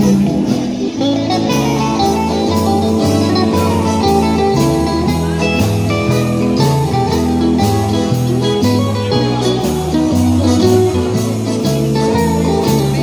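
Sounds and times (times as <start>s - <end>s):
electric guitar: 0.0s - 13.0s
live blues band playing: 0.0s - 13.0s.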